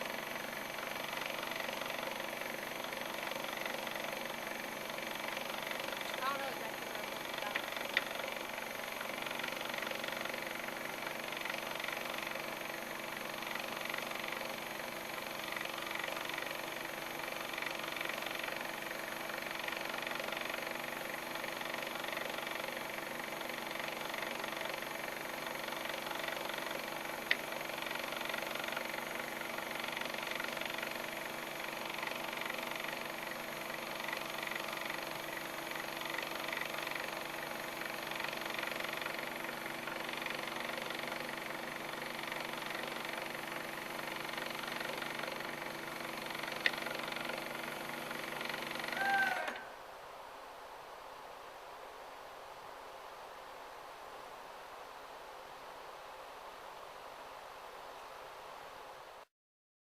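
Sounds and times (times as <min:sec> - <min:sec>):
electric winch motor humming: 0:00.0 - 0:49.8.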